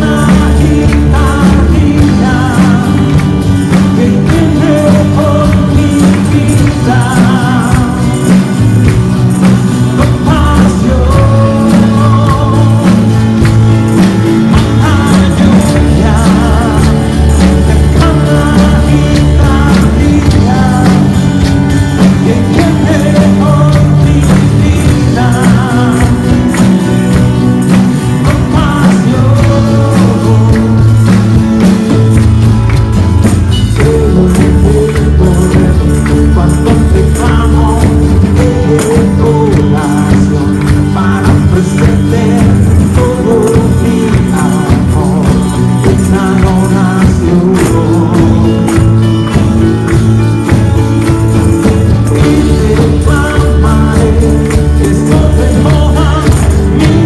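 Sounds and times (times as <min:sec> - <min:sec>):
person singing melody: 0:00.0 - 0:57.0
tambourines shaken and struck: 0:00.0 - 0:57.0
worship band playing: 0:00.0 - 0:57.0.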